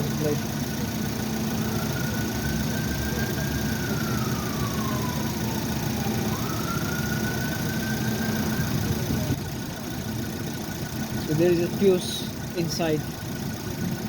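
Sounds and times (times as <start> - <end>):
engine idling: 0.0 - 14.0
faint siren wailing: 0.2 - 12.4.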